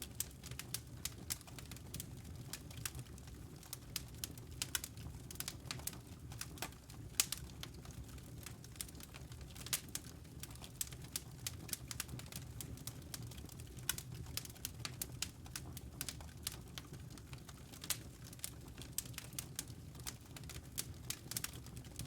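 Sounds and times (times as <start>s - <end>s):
rumble of flames: 0.0s - 22.0s
wood fire crackling: 0.0s - 22.0s.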